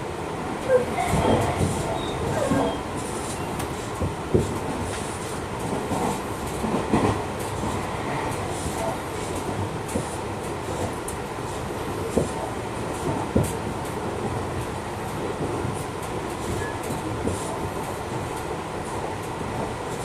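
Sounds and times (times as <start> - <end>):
train wheels rumbling on rail: 0.0 - 20.0
sharp clacks of train wheels: 0.7 - 11.3, 12.1 - 18.5.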